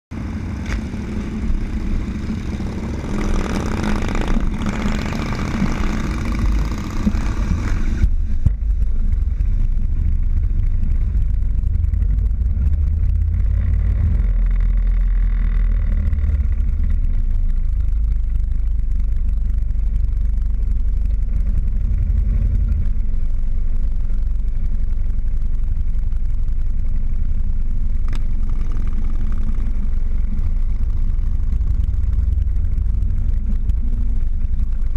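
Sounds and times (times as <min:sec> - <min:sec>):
motorcycle engines rumbling: 0:00.1 - 0:34.9.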